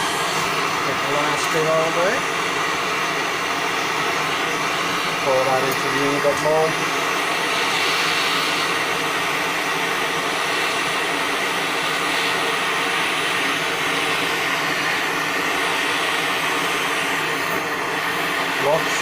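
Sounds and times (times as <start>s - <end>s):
steady rushing roar of burner: 0.0s - 19.0s.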